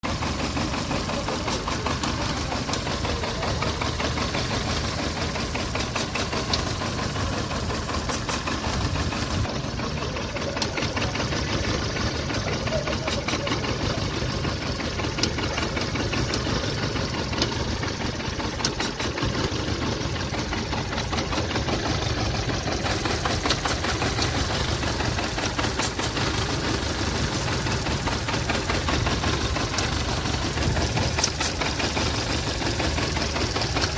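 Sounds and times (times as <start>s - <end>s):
car engine idling with misfire: 0.0s - 33.9s
engine ticking and knocking: 0.0s - 33.9s.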